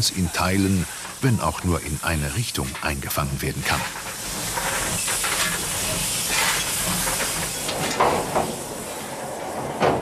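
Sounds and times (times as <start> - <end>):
steam hissing: 0.0 - 10.0.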